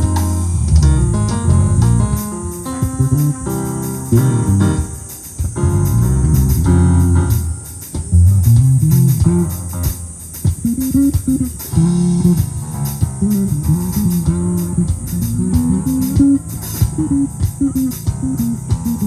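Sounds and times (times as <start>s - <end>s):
drums and ride cymbal: 0.0s - 19.0s
electric bass line: 0.0s - 19.0s.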